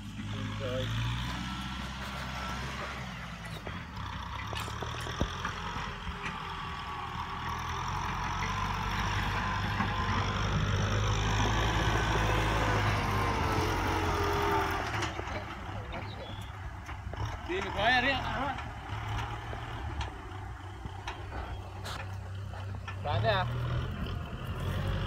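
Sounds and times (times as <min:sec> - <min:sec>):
tractor diesel engines running: 0:00.0 - 0:25.0.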